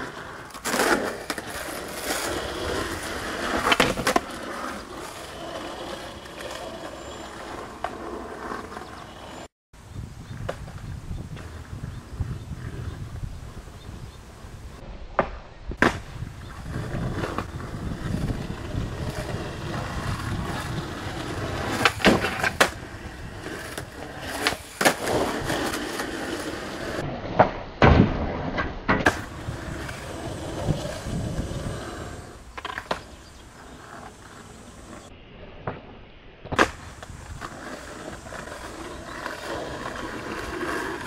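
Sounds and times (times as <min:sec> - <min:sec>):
skateboard wheels rolling on asphalt: 0:00.0 - 0:27.6, 0:28.3 - 0:41.0.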